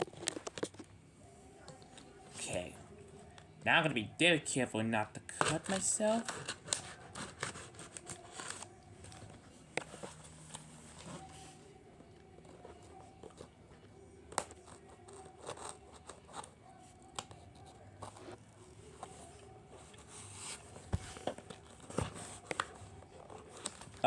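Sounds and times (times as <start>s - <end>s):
scrapes clicks and rustles: 0.0s - 3.6s, 5.3s - 24.0s.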